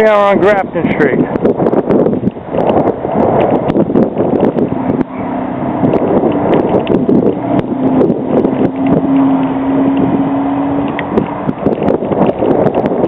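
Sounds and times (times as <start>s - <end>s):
busy street traffic: 0.0s - 13.0s
vehicle engine hum: 0.0s - 13.0s
wind buffeting microphone: 0.0s - 13.0s.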